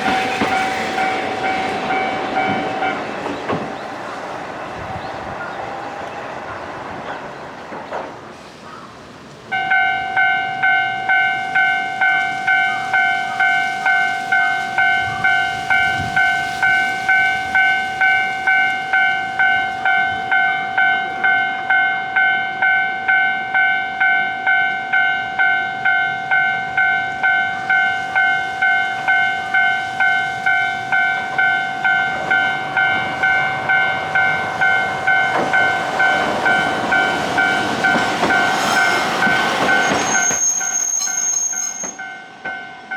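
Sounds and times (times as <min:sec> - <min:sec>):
railroad crossing warning bell: 0:00.0 - 0:04.8, 0:09.5 - 0:42.9.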